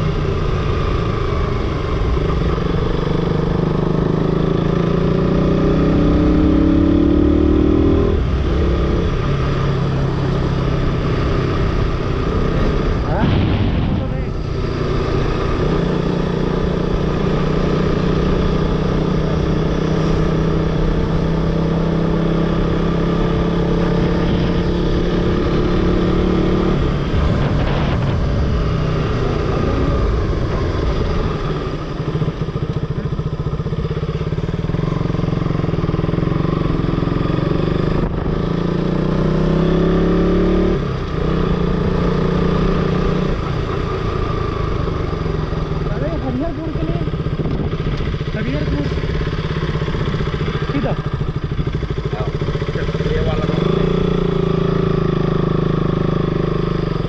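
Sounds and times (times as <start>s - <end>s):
low rumble of wind: 0.0s - 57.0s
motorcycle engine running: 0.0s - 57.0s.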